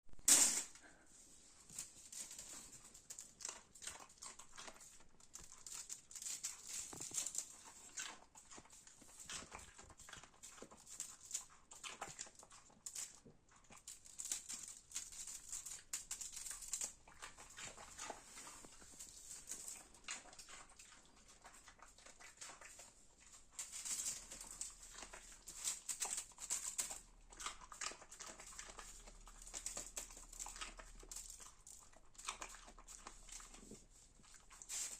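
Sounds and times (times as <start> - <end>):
dog chewing and smacking: 2.4 - 34.7.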